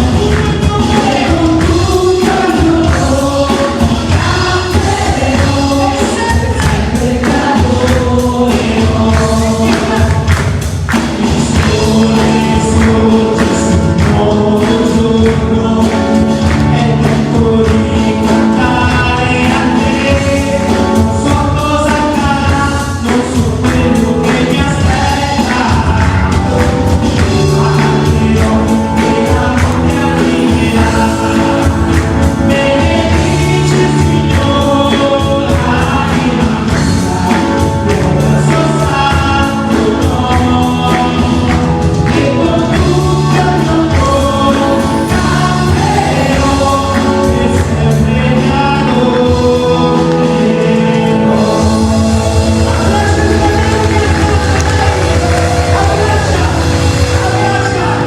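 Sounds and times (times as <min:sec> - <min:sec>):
band with steady beat: 0:00.0 - 0:58.0
choir singing gospel song: 0:00.0 - 0:58.0.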